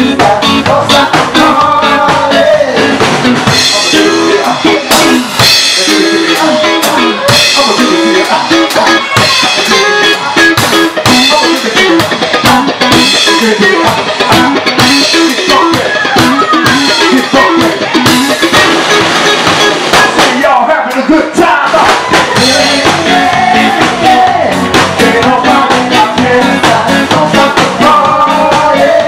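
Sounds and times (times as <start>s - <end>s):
bass guitar: 0.0s - 29.0s
drum kit beat: 0.0s - 29.0s
electric guitar: 0.0s - 29.0s.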